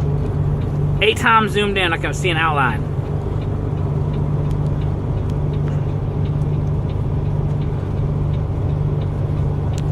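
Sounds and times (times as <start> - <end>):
road noise: 0.0 - 9.9
vehicle engine drone: 0.0 - 9.9.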